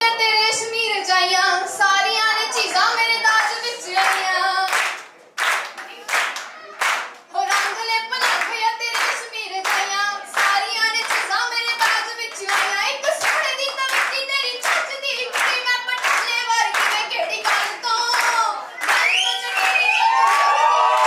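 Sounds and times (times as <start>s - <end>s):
woman singing into a microphone: 0.0s - 4.7s, 7.3s - 19.8s
audience clapping along: 3.4s - 21.0s.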